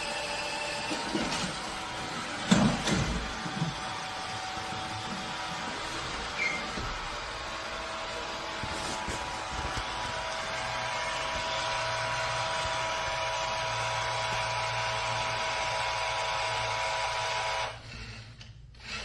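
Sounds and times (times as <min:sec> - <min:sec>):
robot vacuum motor whine: 0:00.0 - 0:18.1.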